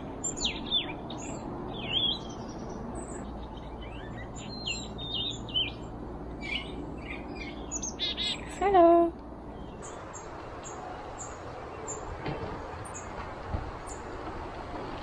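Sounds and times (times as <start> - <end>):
small birds chirping: 0.0 - 14.3
low background noise: 0.0 - 15.0.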